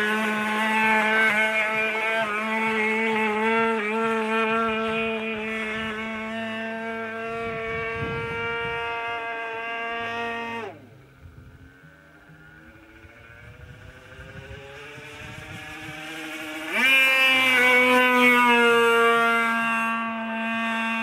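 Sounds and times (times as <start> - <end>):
model plane engine running: 0.0 - 21.0.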